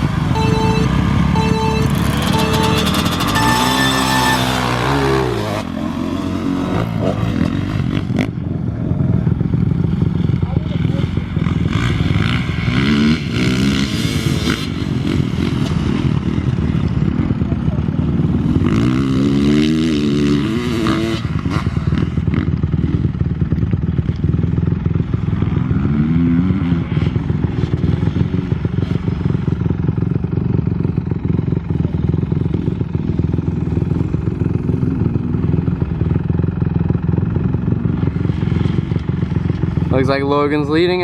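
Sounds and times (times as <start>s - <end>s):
dirt bike engines revving: 0.0s - 23.2s, 24.0s - 29.8s, 33.6s - 41.0s.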